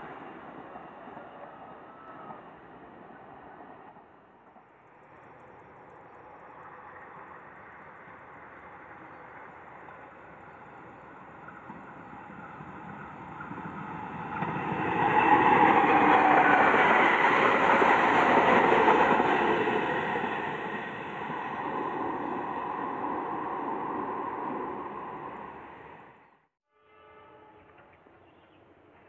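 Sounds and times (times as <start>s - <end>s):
train passing: 0.0s - 29.0s.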